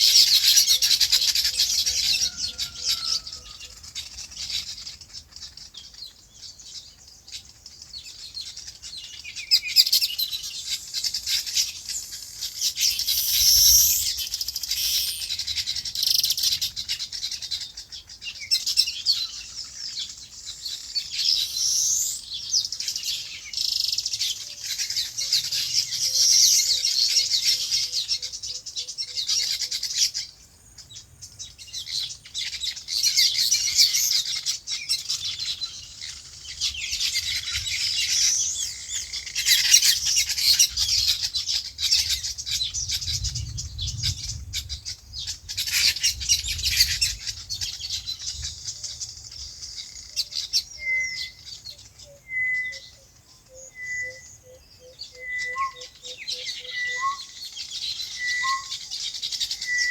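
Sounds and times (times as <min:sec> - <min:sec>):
small birds chirping chorus: 0:00.0 - 0:59.9.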